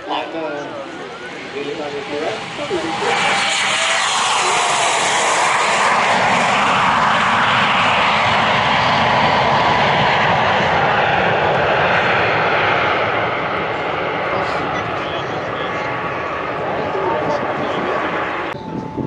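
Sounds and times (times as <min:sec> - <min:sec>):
jet engines climbing away: 0:00.0 - 0:19.0.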